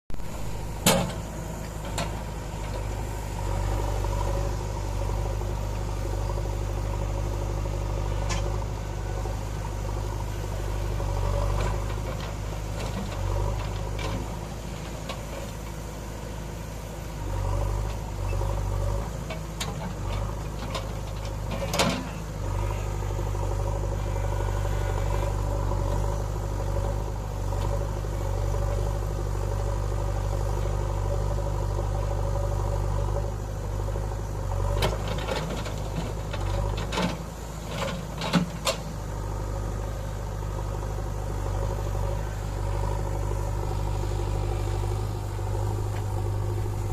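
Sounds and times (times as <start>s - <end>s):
diesel engine running: 0.1s - 46.9s.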